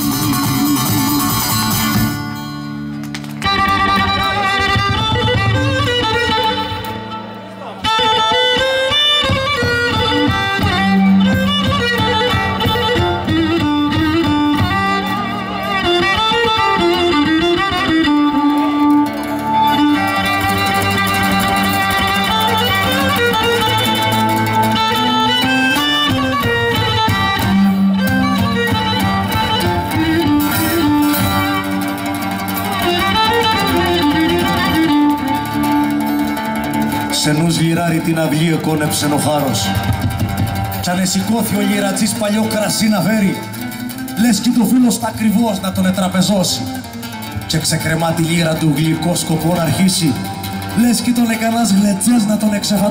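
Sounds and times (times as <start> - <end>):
bowed fiddle melody: 0.0 - 52.9
plucked lute accompaniment: 0.0 - 52.9.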